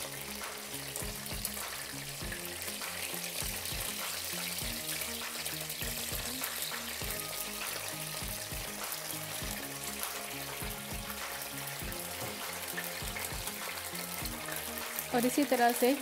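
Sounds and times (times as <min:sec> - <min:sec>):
background music with beat: 0:00.0 - 0:16.0
kebabs sizzling in oil: 0:00.0 - 0:16.0.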